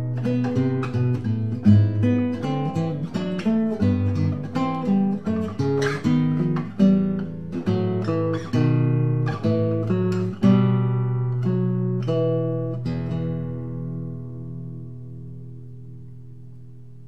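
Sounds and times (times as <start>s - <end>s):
acoustic guitar picking: 0.0s - 17.0s.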